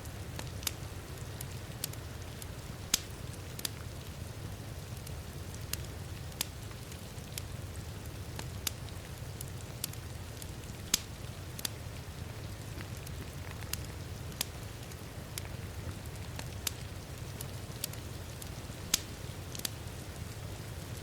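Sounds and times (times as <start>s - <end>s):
soft hiss of rain: 0.0s - 21.0s
wood fire crackling and popping: 0.0s - 21.0s.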